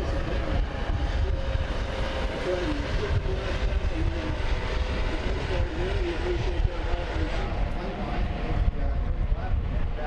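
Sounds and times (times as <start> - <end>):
helicopter flying past: 0.0 - 10.0.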